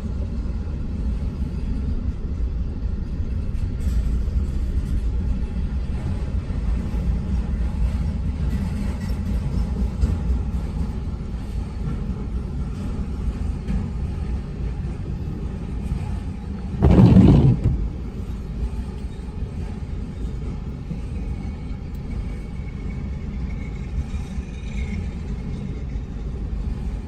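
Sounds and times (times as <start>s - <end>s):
freight train rumbling past: 0.1s - 27.0s.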